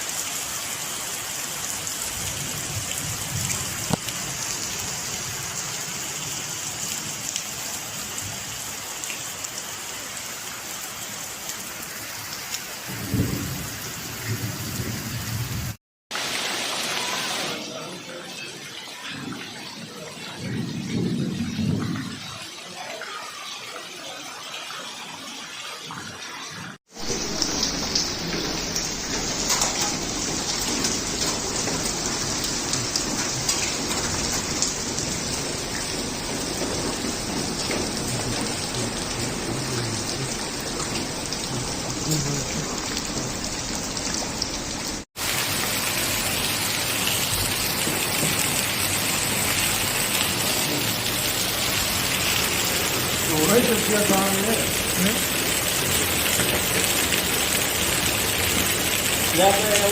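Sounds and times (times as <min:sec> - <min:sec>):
heavy rain pelting hard surfaces: 0:00.0 - 0:59.9.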